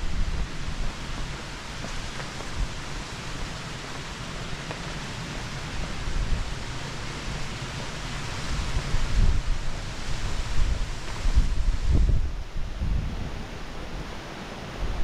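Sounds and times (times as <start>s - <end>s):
wind buffeting microphone: 0.0s - 3.6s, 5.6s - 14.2s.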